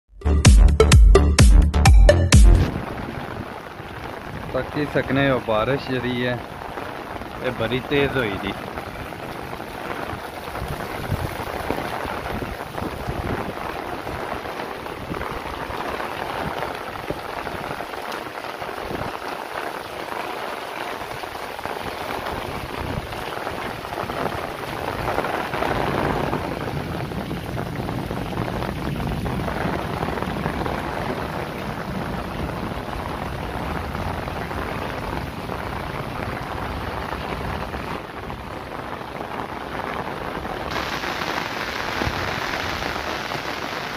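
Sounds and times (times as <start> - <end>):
heavy rain on pavement: 2.4 - 43.9
water pouring from drain spouts: 2.8 - 43.9.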